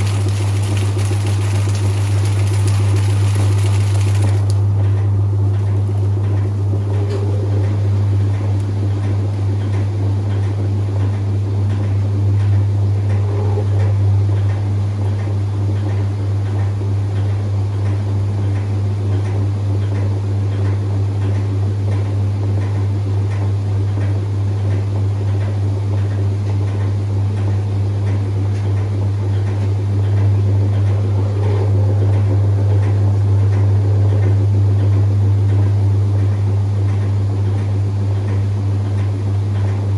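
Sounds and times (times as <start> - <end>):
washing machine churning: 0.0 - 39.9
washing machine motor hum: 0.0 - 39.9.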